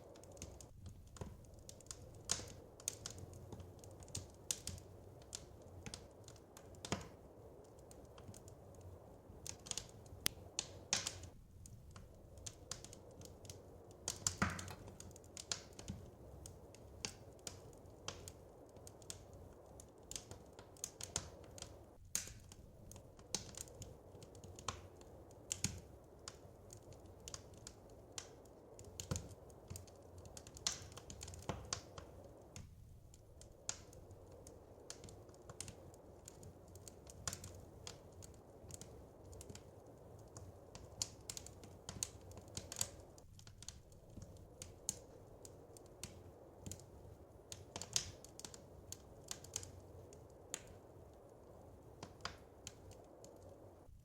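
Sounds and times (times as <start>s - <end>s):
wood fire pops and snaps: 0.0s - 53.9s
soft low fire noise: 0.0s - 54.0s.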